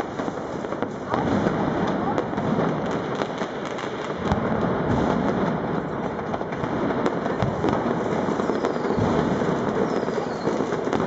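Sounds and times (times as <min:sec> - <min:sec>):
firecracker bangs: 0:00.0 - 0:11.0
fireworks crackling: 0:00.0 - 0:11.0.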